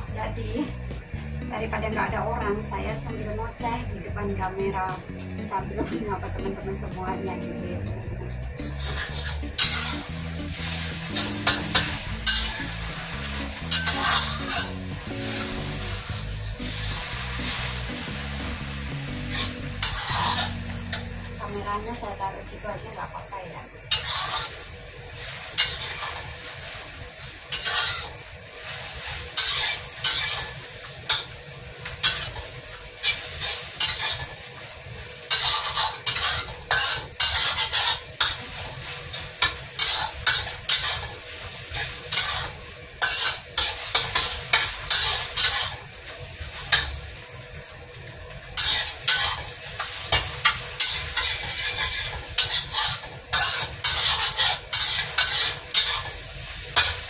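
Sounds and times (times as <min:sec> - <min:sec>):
food sizzling in oil: 0:00.0 - 0:57.0
spatula scraping wok: 0:08.5 - 0:22.0, 0:23.9 - 0:47.6, 0:48.4 - 0:57.0.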